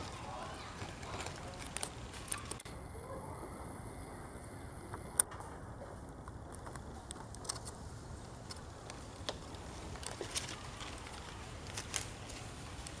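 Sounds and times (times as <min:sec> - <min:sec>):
faint clicks and ticks: 0:00.0 - 0:02.8, 0:04.8 - 0:13.0.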